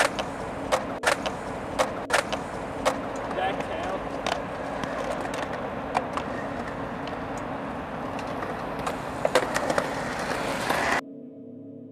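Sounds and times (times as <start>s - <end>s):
skateboard clacks: 0.0s - 11.0s
skateboard wheels rolling on concrete: 0.0s - 11.0s.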